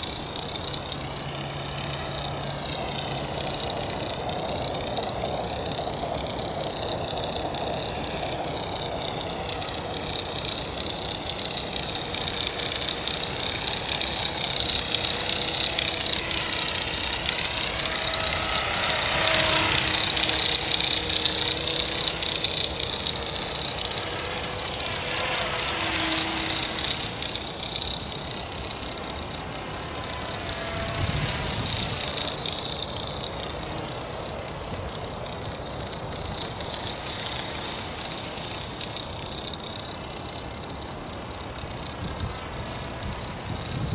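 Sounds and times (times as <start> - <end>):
rc helicopter whining: 0.0 - 43.9.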